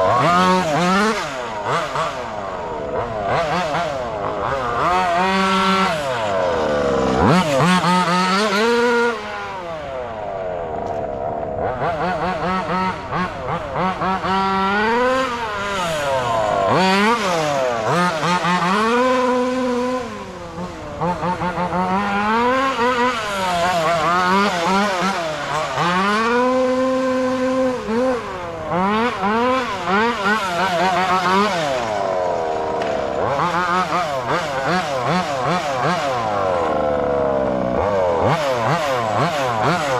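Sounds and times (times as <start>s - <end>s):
rc car engine revving: 0.0s - 39.9s.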